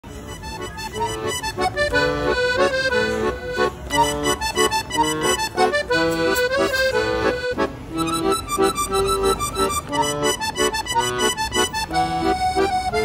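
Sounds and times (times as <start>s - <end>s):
instrumental tune of short notes: 0.1s - 13.0s.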